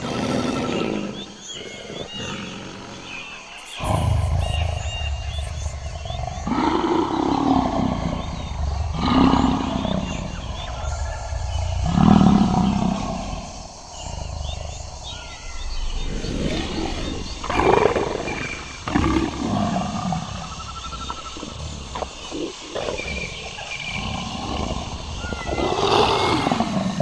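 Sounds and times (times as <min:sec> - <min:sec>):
tiger growling and roaring: 0:00.0 - 0:27.0.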